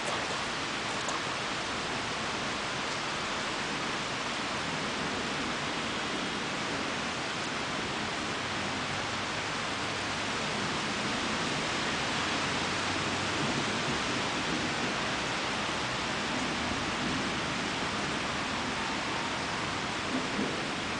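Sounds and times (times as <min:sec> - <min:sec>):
heavy rain hissing: 0:00.0 - 0:20.9.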